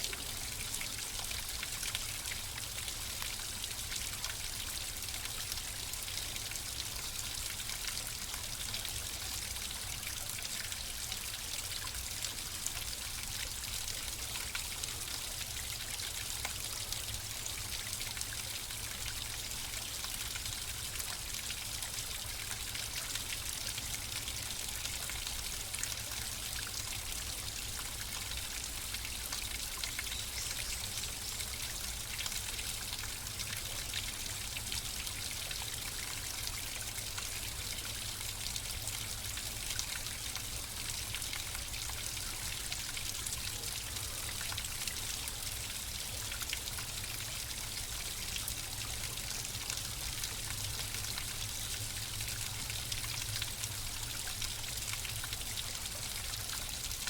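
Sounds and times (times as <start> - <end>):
trickling stream: 0.0 - 57.0.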